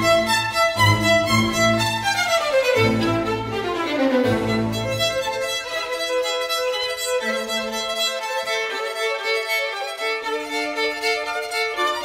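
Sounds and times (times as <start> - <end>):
violin melody: 0.0 - 12.0.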